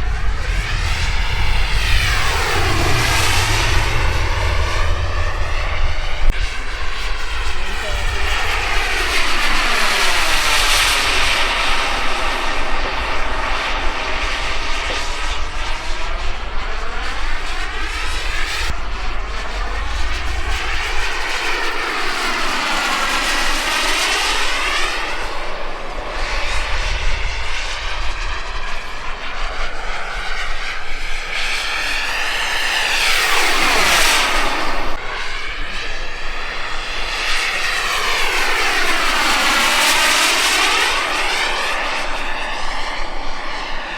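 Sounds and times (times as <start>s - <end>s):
model jet turbine whining: 0.0s - 43.9s.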